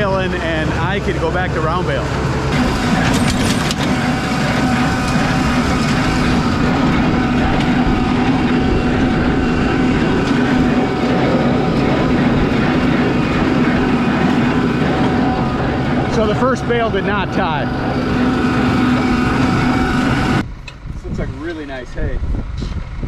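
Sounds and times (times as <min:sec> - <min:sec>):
tractor engine drone: 0:00.0 - 0:23.0
baler mechanism rattling: 0:02.2 - 0:20.8.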